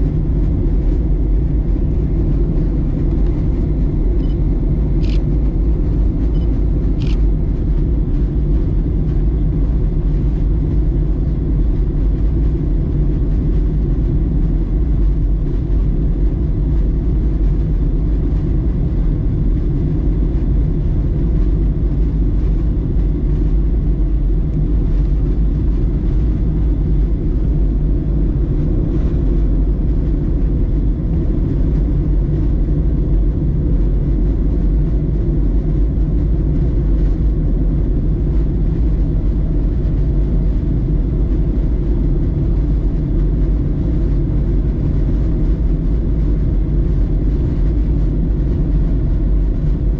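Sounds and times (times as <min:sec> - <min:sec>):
airplane cabin rumble in flight: 0:00.0 - 0:49.9.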